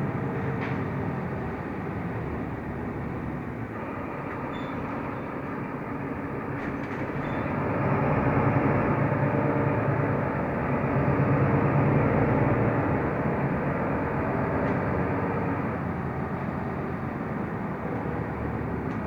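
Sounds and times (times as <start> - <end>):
bus engine: 0.0 - 19.0
road noise: 0.0 - 19.0.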